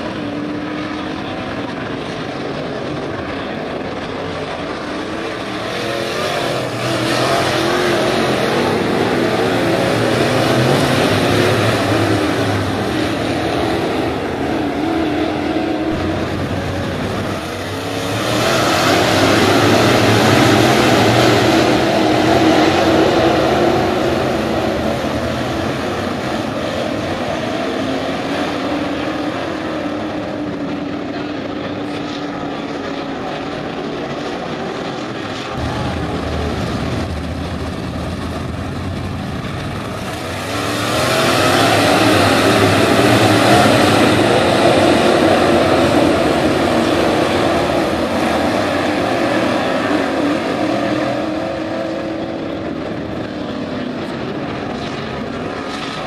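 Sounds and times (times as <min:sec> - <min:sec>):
race car engines droning: 0:00.0 - 0:56.0.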